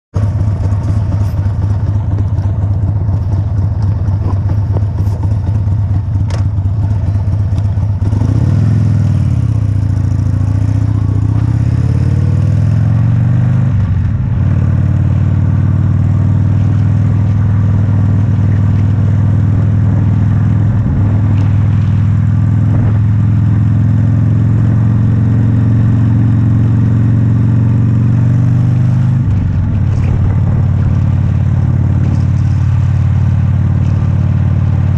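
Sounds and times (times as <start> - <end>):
motorcycle engine: 0.1 - 34.9.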